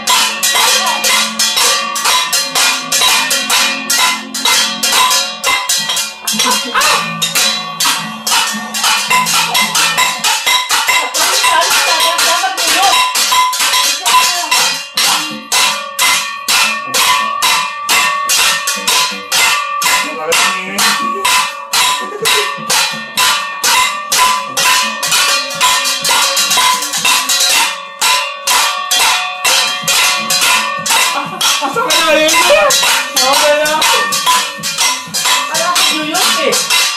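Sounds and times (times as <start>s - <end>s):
metal cookware clattering: 0.0s - 36.9s.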